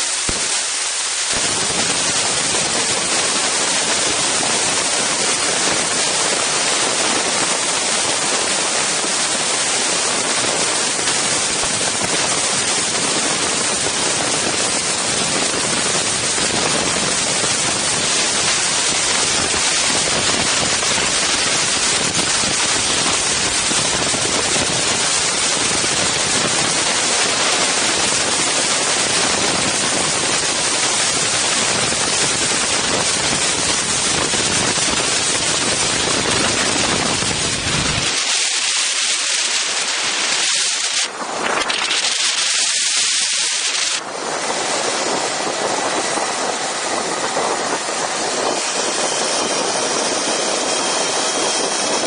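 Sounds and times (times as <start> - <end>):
wind blowing across microphones: 0.0 - 52.0.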